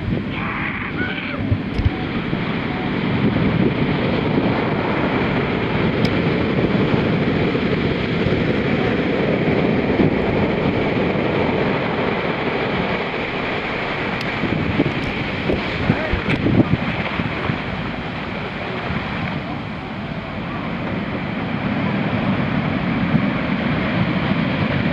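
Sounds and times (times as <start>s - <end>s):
surf breaking on sand: 0.0s - 24.9s.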